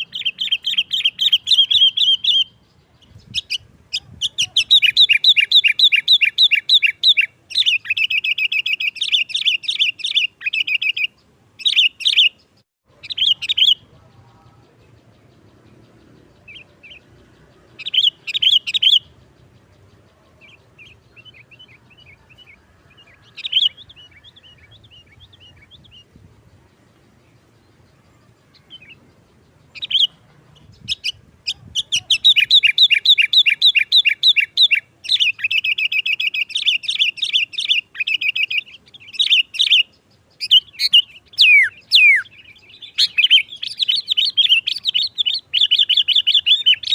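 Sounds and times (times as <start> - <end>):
bulbul chattering: 0.0 - 46.9.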